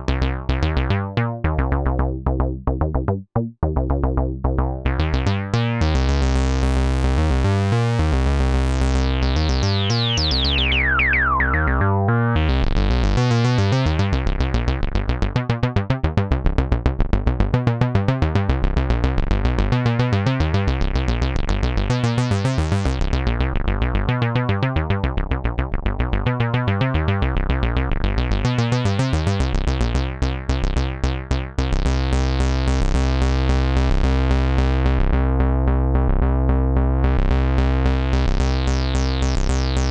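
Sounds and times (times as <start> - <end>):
synthesizer acid bass line: 0.0 - 39.9.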